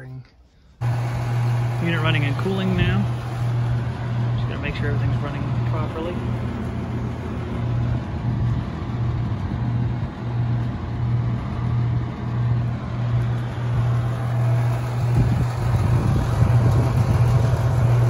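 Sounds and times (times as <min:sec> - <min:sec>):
heat pump running: 0:00.5 - 0:18.0.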